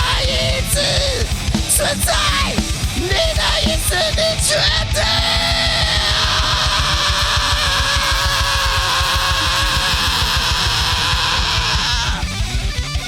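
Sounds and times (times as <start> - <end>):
distorted electric guitars chord: 0.0 - 13.0
fast drumming: 0.0 - 13.0.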